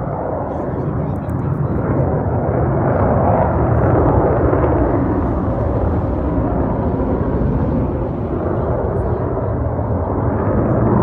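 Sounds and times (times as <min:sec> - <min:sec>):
jet engines passing overhead: 0:00.0 - 0:11.0.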